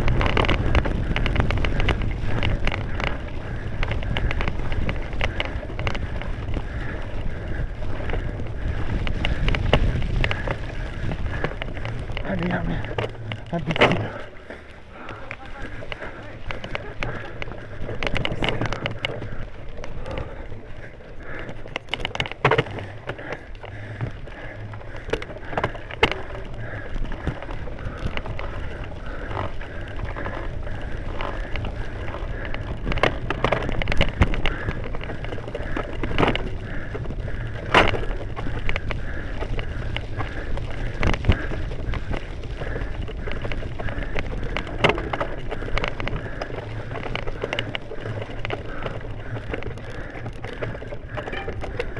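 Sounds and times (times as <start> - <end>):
bicycle tyres rolling on dirt: 0.0 - 51.9
bike knocks and rattles: 0.0 - 51.9.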